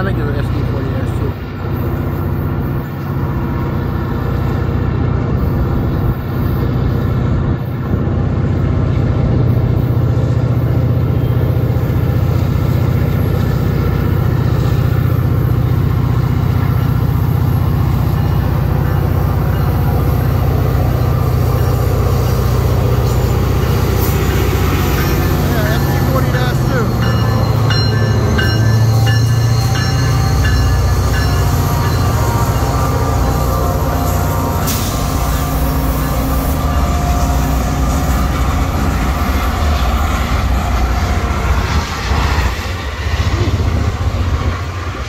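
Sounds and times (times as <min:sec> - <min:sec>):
diesel locomotive engine drone: 0:00.0 - 0:45.0.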